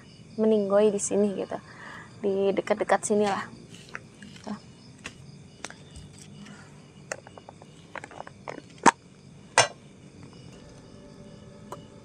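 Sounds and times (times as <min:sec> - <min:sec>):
faint insect chirring: 0:00.0 - 0:12.0.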